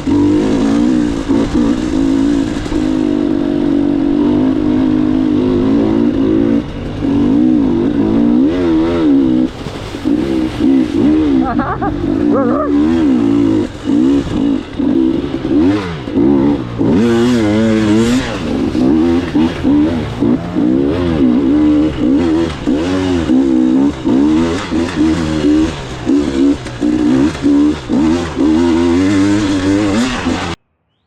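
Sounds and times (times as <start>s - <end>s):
dirt bike engine revving: 0.0s - 30.6s.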